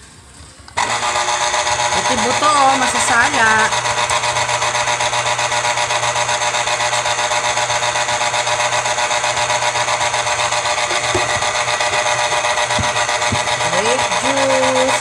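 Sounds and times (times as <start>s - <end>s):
electric citrus juicer motor whirring: 0.8s - 15.0s.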